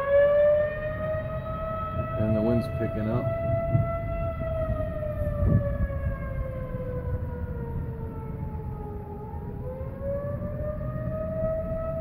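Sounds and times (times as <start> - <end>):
tornado warning siren wailing: 0.0 - 12.0
wind noise on microphone: 0.7 - 12.0.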